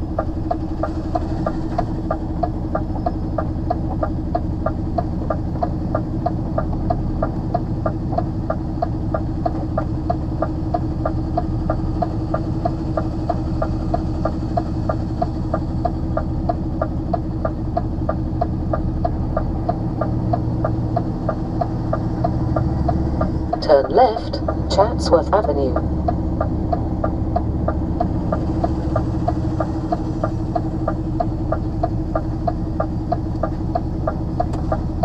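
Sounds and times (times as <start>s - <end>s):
diesel engine running: 0.0s - 35.0s
steady light ticking: 0.0s - 35.0s.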